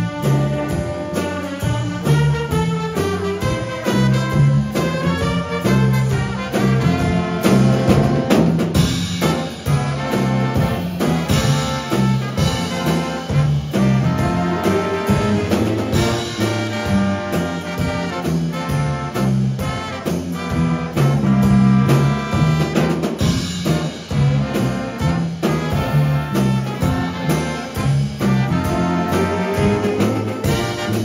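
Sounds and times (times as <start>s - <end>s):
drum kit beat: 0.0s - 31.0s
jazz big band playing: 0.0s - 31.0s
saxophones and trumpets: 0.0s - 31.0s.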